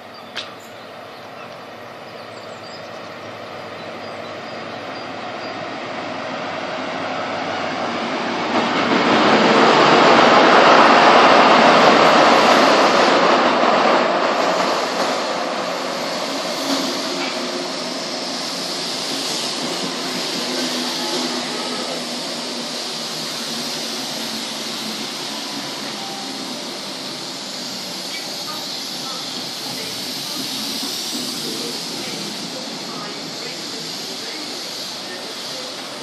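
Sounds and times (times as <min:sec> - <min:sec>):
diesel train engine: 0:00.0 - 0:36.0
train wheels on rails: 0:00.0 - 0:36.0.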